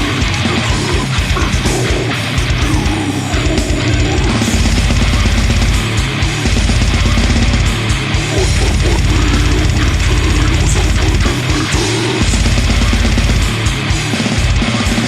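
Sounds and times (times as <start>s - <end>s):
death metal music: 0.0s - 15.0s.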